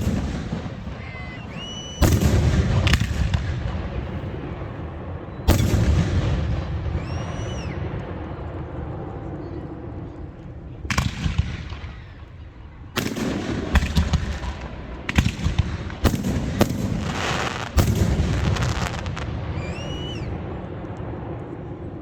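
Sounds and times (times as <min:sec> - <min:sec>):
fireworks banging and crackling: 0:00.0 - 0:08.9, 0:10.8 - 0:12.3, 0:13.0 - 0:21.4.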